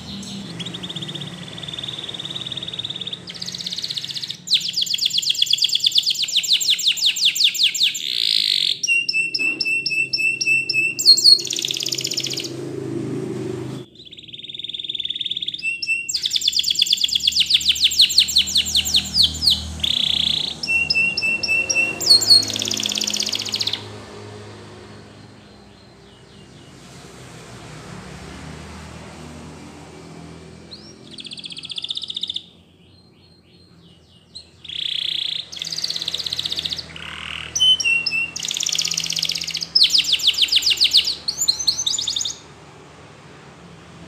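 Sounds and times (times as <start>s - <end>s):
canary singing trills: 0.0s - 12.8s, 13.6s - 27.1s, 30.0s - 42.6s.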